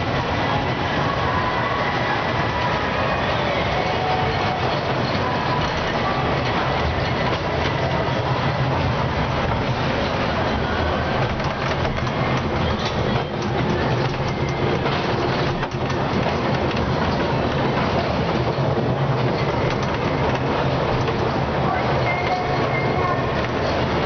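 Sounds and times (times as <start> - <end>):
miniature train rumbling: 0.0 - 24.0.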